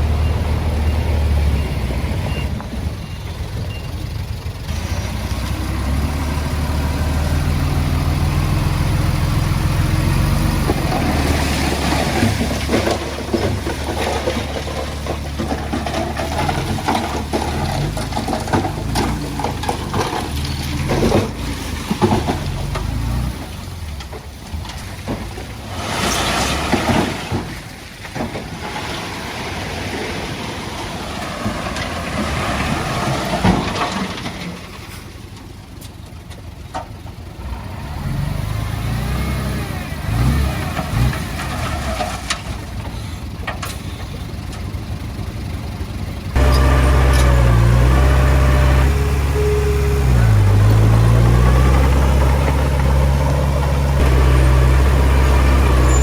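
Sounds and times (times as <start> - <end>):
heavy diesel engines: 0.0 - 56.0.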